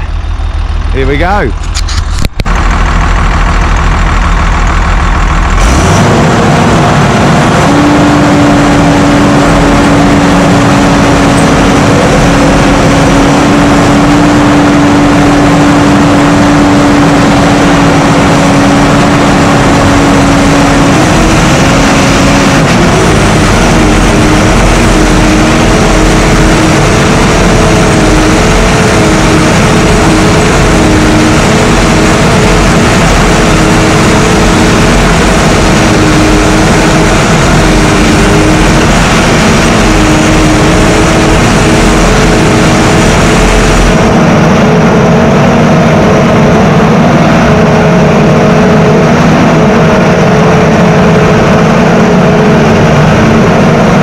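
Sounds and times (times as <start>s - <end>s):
tracked vehicle engine running: 0.0s - 54.0s
wavering whine: 0.0s - 54.0s.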